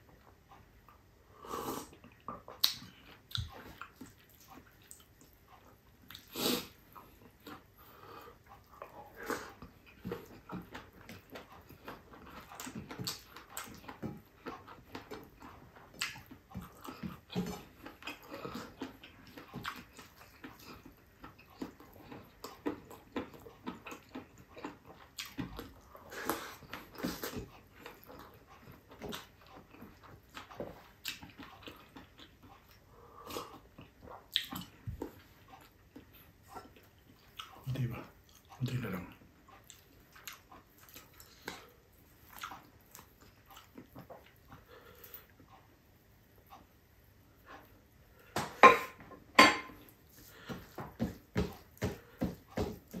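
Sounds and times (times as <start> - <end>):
wet chewing and lip-smacking: 1.9 - 48.3.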